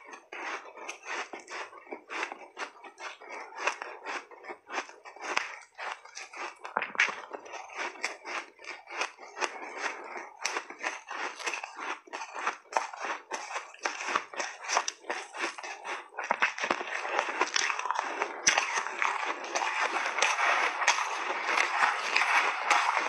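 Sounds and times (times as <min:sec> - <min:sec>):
shaved ice crunching when chewed: 0:00.0 - 0:23.0.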